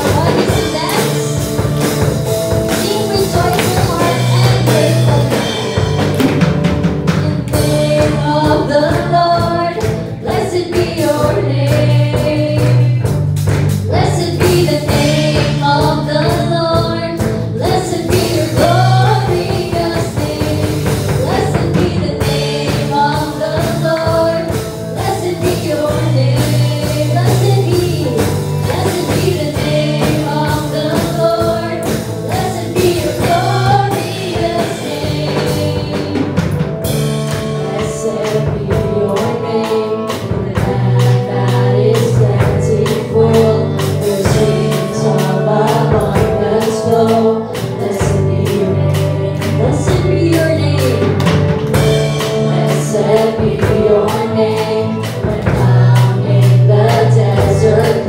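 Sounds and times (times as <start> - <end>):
woman singing: 0.0 - 1.9, 2.6 - 6.2, 7.1 - 13.2, 13.8 - 58.0
drum beat: 0.0 - 47.2
bass notes: 0.0 - 58.0
electric guitar: 0.0 - 58.0.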